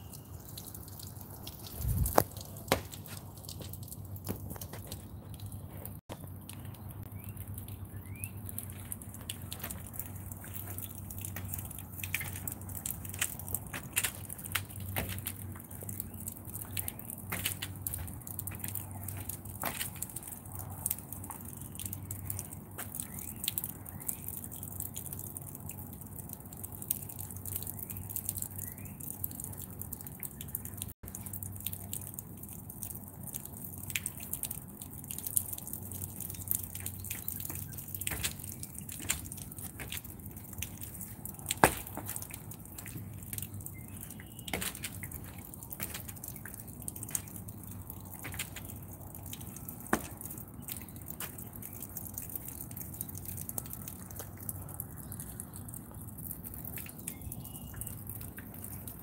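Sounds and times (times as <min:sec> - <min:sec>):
small clicks and ticks: 0:00.0 - 0:59.0
water spraying and dripping: 0:00.0 - 0:59.0.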